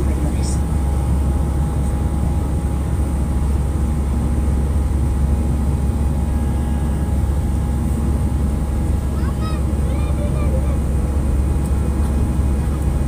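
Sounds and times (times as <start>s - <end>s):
faint thin engine whine: 0.0s - 13.0s
jet engine low rumble: 0.0s - 13.0s.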